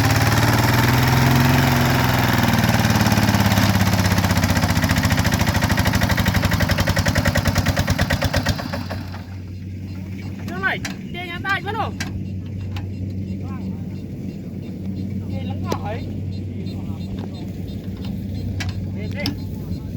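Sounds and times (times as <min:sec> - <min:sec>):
truck engine chugging: 0:00.0 - 0:19.9.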